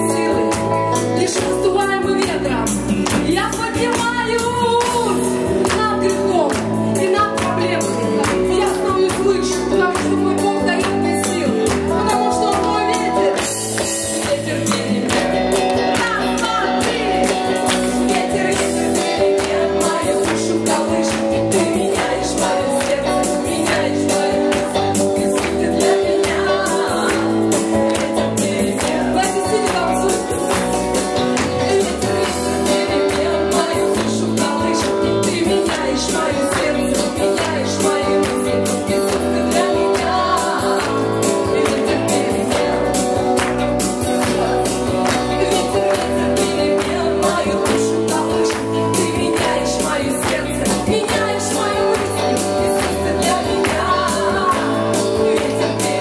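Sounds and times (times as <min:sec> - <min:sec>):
live worship band music: 0:00.0 - 0:56.0.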